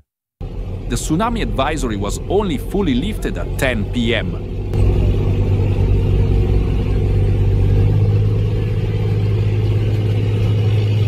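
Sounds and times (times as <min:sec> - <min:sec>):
deep rumbling drone: 0:00.4 - 0:11.0.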